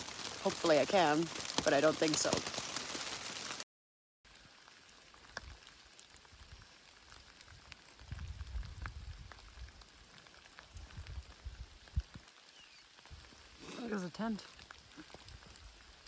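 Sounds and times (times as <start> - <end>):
light rain falling: 0.0 - 3.6, 4.3 - 16.0
raindrop ticks: 0.0 - 3.6, 4.3 - 16.0.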